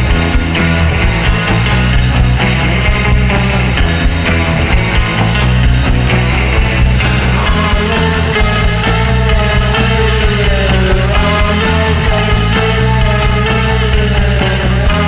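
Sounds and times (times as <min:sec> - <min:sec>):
drums keeping a steady beat: 0:00.0 - 0:15.0
electric guitar: 0:00.0 - 0:15.0.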